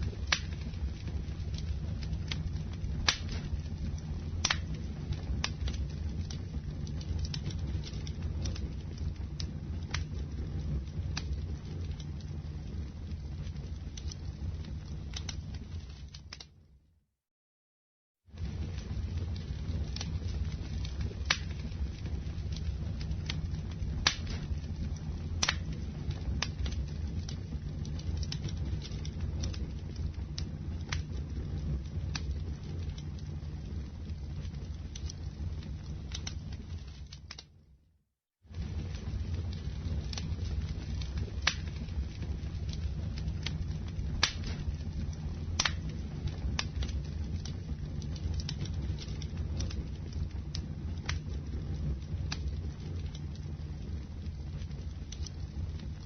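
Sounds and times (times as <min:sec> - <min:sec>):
steady low rumble: 0:00.0 - 0:16.0, 0:18.4 - 0:37.0, 0:38.5 - 0:56.0
wood crackling and popping: 0:00.0 - 0:16.7, 0:18.3 - 0:37.6, 0:38.5 - 0:56.0.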